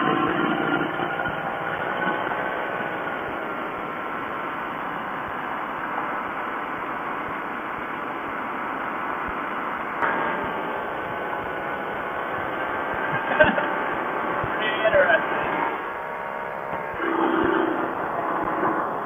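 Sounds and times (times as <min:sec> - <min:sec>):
aircraft engine running: 0:00.0 - 0:19.0.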